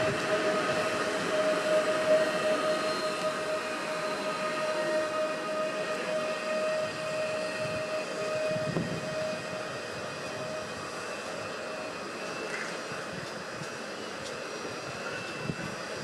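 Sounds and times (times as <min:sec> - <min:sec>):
electric train whine: 0:00.0 - 0:16.0
train rolling noise: 0:00.0 - 0:16.0.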